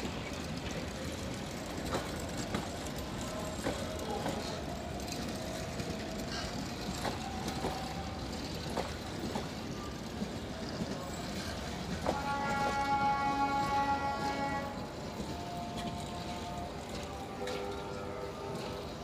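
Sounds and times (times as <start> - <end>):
train coaches rumbling: 0.0 - 19.0
wheels clacking over rail joints: 0.0 - 19.0.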